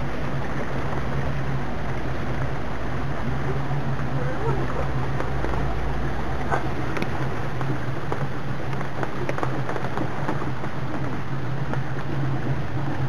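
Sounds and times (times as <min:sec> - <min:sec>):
boat motor humming: 0:00.0 - 0:13.0
rushing water: 0:00.0 - 0:13.0.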